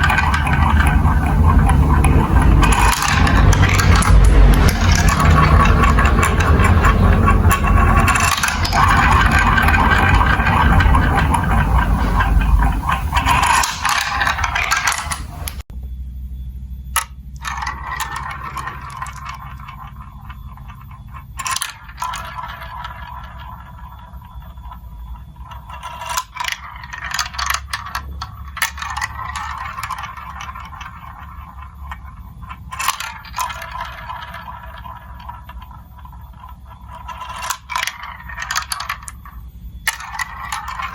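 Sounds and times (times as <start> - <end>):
marbles rolling through plastic run: 0.0 - 15.7, 17.0 - 40.9.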